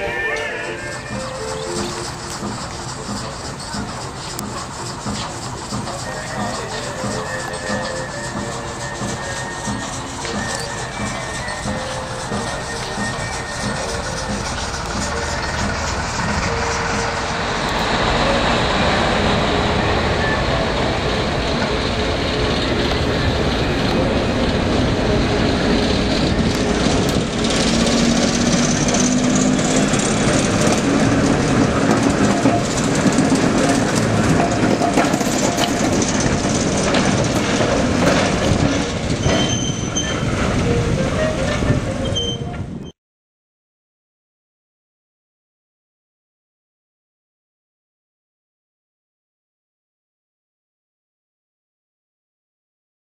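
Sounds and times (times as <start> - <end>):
diesel locomotive running: 0.0 - 42.9
train wheels clattering on rails: 0.0 - 42.9
wheel squeals: 0.0 - 43.0.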